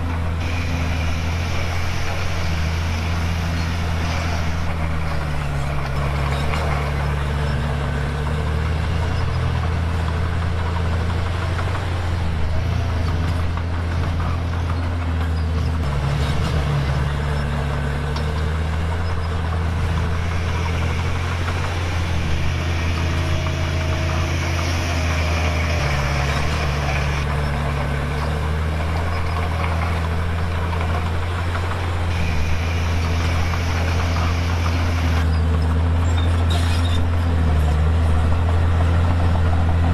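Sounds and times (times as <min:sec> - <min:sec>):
bulldozer diesel engine running: 0:00.0 - 0:39.9
bulldozer pushing stone: 0:00.0 - 0:39.9.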